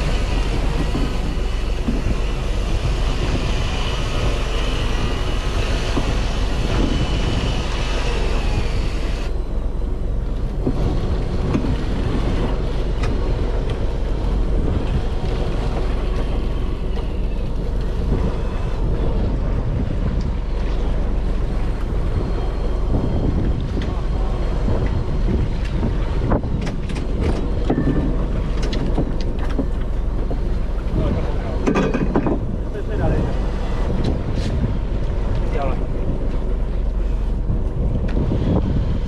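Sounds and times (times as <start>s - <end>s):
boat engine running: 0.0s - 39.0s
wind buffeting microphone: 0.0s - 39.0s.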